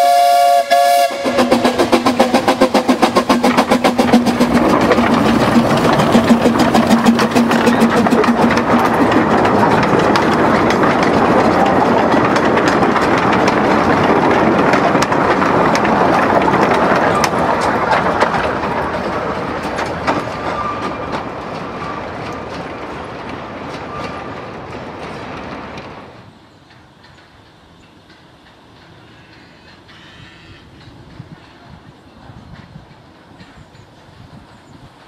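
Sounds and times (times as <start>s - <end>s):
steam locomotive running: 0.0s - 35.0s
wheels clicking over rails: 1.2s - 29.5s.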